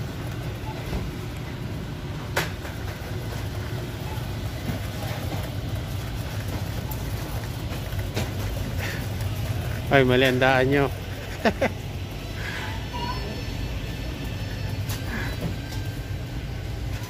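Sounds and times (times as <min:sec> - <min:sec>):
shopping cart rolling: 0:00.0 - 0:17.0.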